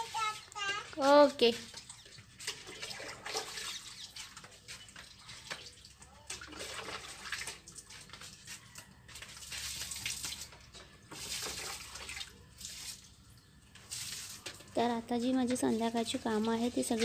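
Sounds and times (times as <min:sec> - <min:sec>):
water splashing on plants: 0:00.0 - 0:17.0.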